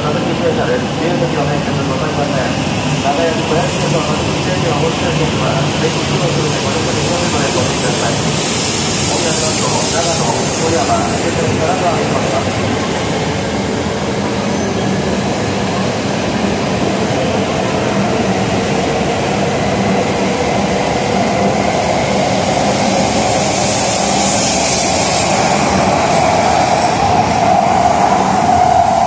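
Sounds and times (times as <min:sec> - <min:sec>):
train rolling rumble: 0:00.0 - 0:29.0.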